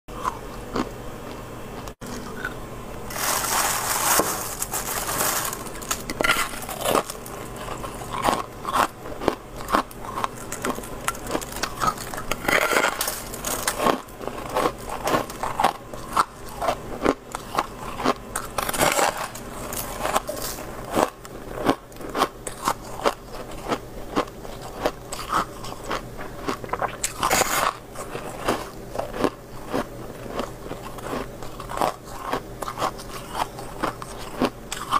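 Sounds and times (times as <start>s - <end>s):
faint steady hum: 0.1s - 34.9s
frost crunching between teeth: 0.2s - 34.9s.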